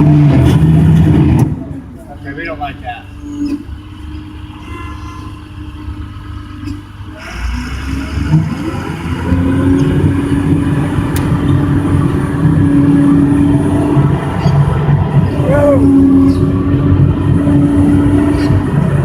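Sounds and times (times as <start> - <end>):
diesel engine idling and revving: 0.0 - 19.0
steady whine: 0.0 - 19.0.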